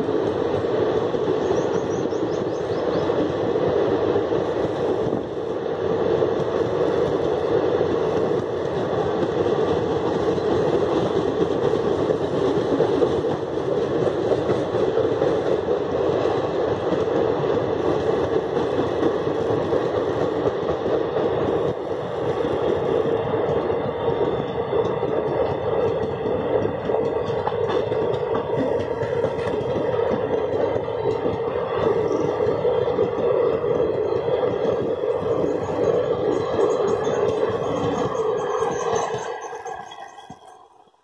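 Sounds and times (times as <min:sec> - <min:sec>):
train wheels running on rails: 0:00.0 - 0:41.0.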